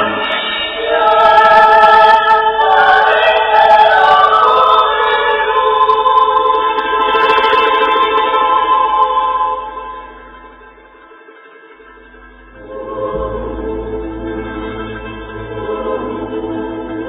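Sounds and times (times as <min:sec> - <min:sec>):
choir singing held chords: 0:00.0 - 0:11.1, 0:12.1 - 0:17.0.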